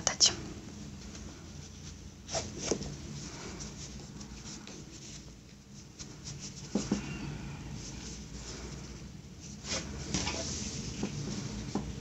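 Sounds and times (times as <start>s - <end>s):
yarn rubbing and rustling: 0.8s - 12.0s.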